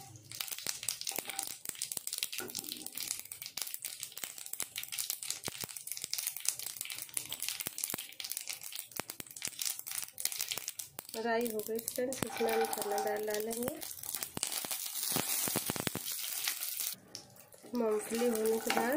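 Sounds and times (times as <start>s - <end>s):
seeds popping in hot oil: 0.0s - 18.9s.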